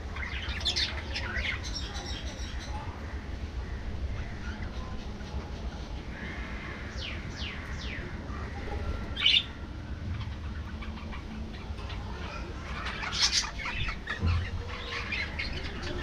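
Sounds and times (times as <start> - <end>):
budgerigars chirping and calling: 0.0 - 16.0.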